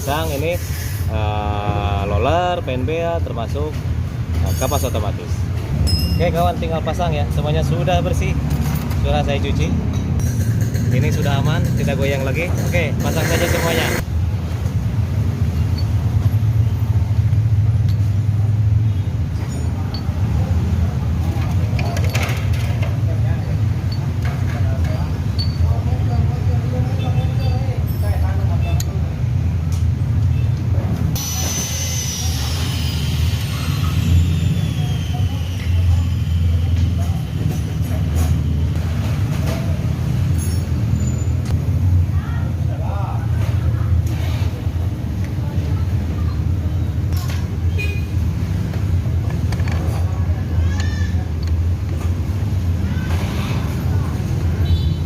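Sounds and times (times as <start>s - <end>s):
vehicle engines rumbling: 0.0s - 55.0s.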